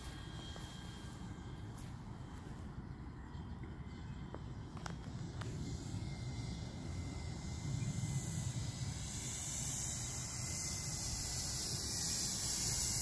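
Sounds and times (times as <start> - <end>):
model plane motors whining: 0.0 - 13.0.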